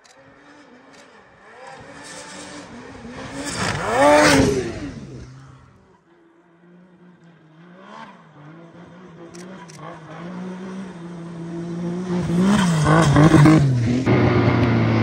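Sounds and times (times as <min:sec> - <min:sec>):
steady snowmobile engine: 0:00.0 - 0:15.0
snowmobile engine passing by: 0:00.2 - 0:15.0.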